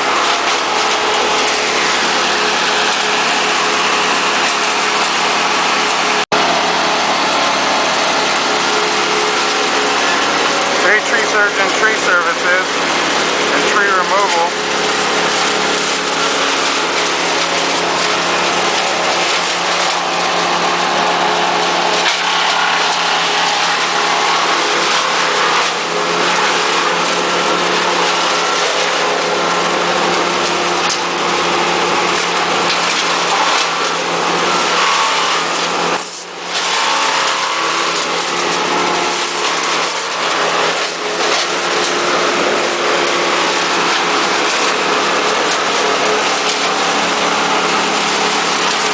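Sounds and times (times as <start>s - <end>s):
engine machinery running: 0.0s - 48.9s.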